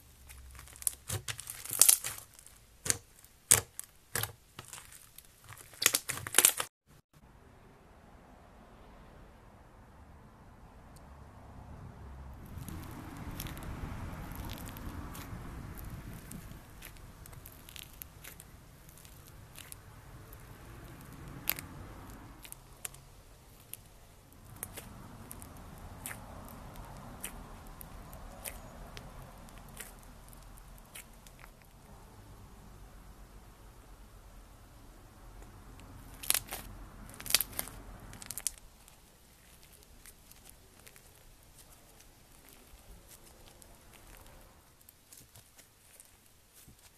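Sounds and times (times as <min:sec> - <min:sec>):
crunchy slime crackling: 0:00.0 - 0:06.8, 0:12.4 - 0:32.0, 0:35.4 - 0:46.9.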